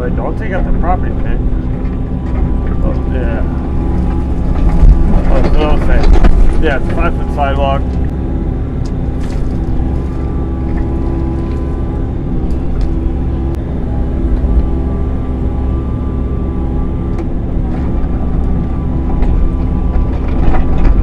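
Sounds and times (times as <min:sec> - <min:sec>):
excavator diesel engine running: 0:00.0 - 0:21.0
steady tones: 0:00.0 - 0:21.0.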